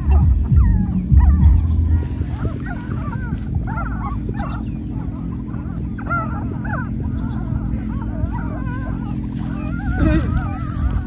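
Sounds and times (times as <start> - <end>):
low rumble: 0.0 - 11.0
puppies squealing: 0.0 - 11.0.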